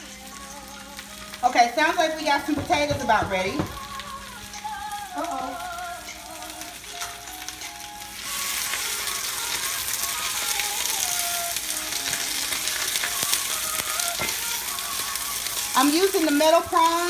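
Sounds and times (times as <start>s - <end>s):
spinach sizzling in a skillet: 0.0s - 17.0s.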